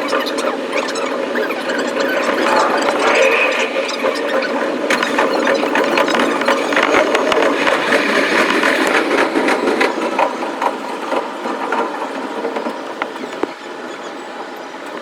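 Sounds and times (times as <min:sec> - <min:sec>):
sped-up train wheel clatter: 0:00.0 - 0:15.0
steady train rush: 0:00.0 - 0:15.0.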